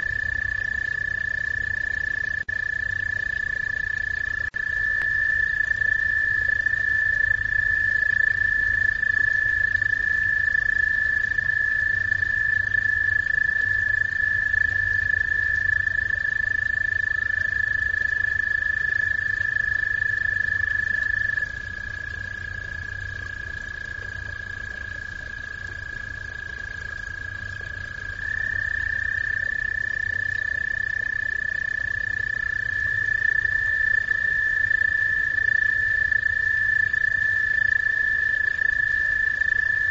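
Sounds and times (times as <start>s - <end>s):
frogs trilling: 0.0s - 39.9s.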